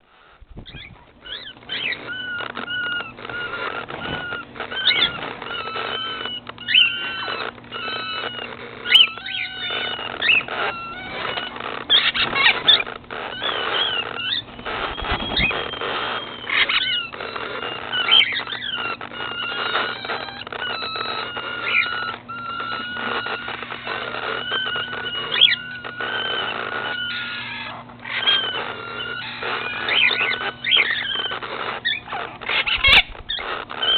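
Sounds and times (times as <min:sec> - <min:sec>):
cockatiels chirping and calling: 0:00.0 - 0:33.9
steady low hum: 0:00.0 - 0:33.9.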